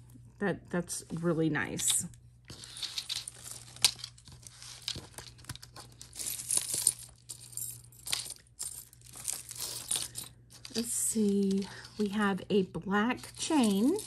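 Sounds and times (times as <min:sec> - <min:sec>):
rustling and crinkling: 0:01.0 - 0:12.4
jewelry clicking and clinking: 0:01.7 - 0:12.3, 0:13.1 - 0:14.0.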